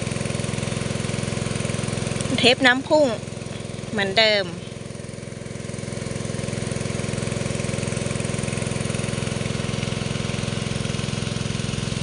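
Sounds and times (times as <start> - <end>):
engine-driven water pump running: 0.0 - 12.0.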